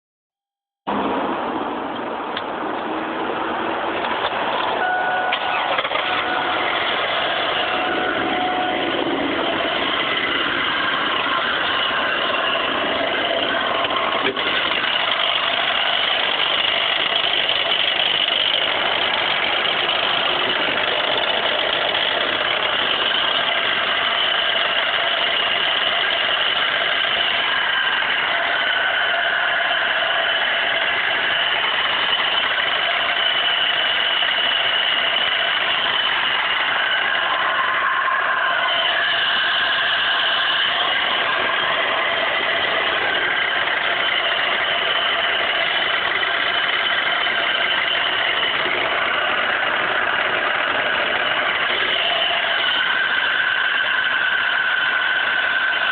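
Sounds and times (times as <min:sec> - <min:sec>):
car engine idling: 0:00.9 - 0:55.9.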